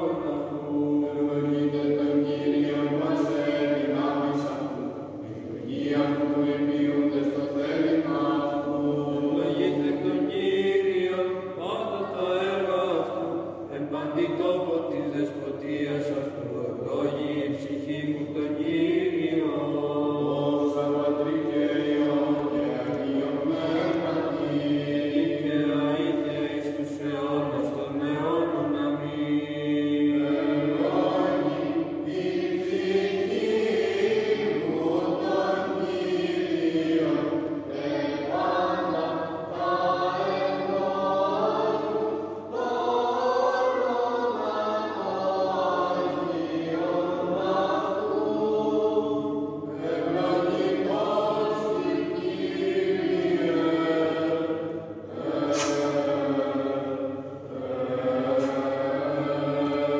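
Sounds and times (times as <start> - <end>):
voices singing a slow chant: 0.0 - 59.9.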